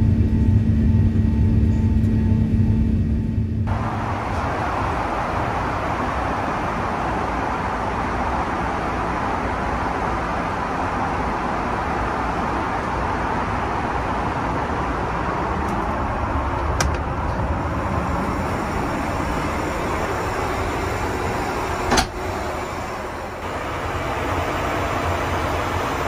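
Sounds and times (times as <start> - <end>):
airliner cabin noise: 0.0 - 26.0.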